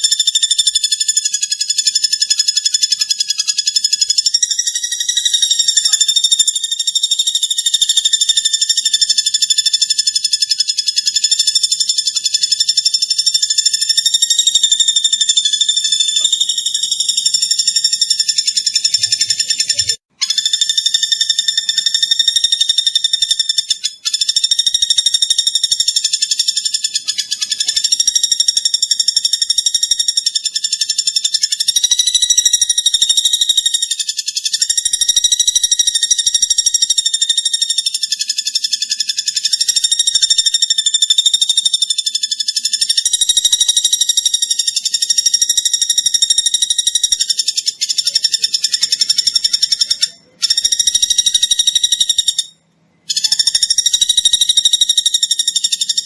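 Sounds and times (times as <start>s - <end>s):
bird high-pitched trill: 0.0s - 56.0s.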